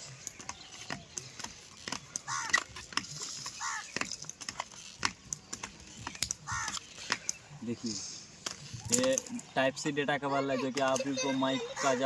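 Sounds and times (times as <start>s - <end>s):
bird calls: 0.0s - 12.0s.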